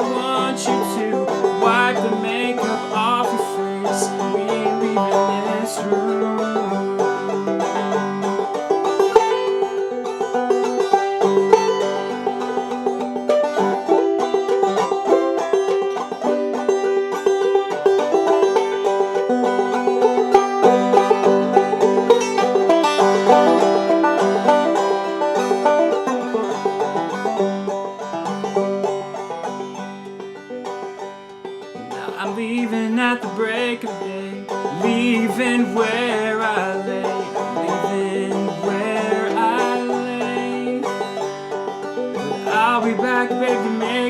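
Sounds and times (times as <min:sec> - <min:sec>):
banjo playing: 0:00.0 - 0:44.0.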